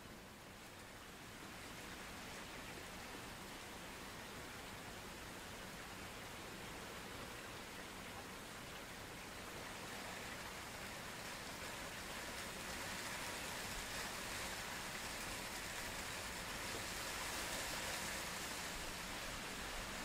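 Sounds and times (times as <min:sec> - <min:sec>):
heavy rain on a pond: 0:00.0 - 0:20.0.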